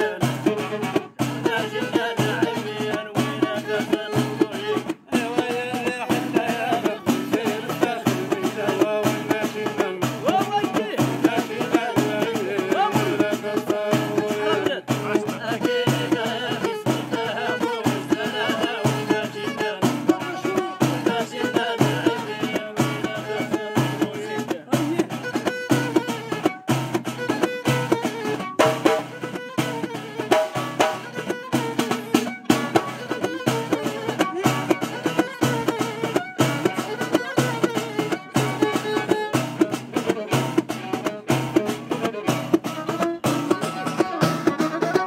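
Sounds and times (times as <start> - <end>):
bowed violin melody: 0.0 - 45.0
frame drum beats: 0.0 - 45.0
hand percussion: 0.0 - 45.0.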